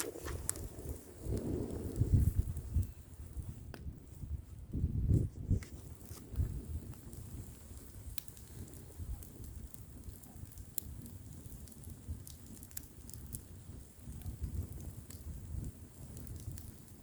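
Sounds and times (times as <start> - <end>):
bonfire crackling and popping: 0.0 - 17.0
low rumble of wind: 0.0 - 17.0.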